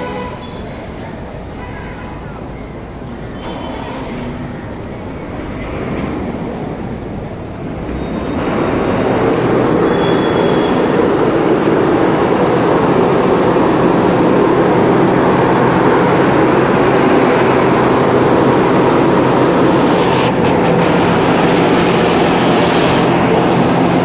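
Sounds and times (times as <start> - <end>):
bus engine running: 2.8 - 24.0.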